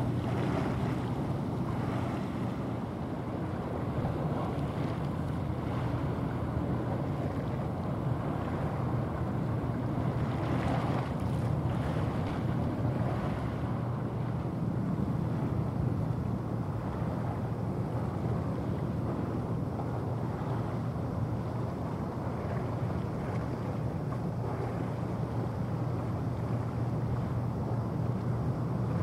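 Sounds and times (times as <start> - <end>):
cargo ship low hum: 0.0 - 29.0
water washing along hull: 0.0 - 29.0.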